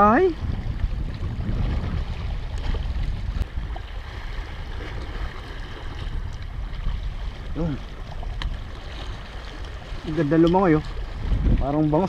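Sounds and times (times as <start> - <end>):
waves washing against rocks: 0.0 - 12.0
wind buffeting the microphone: 0.0 - 12.0.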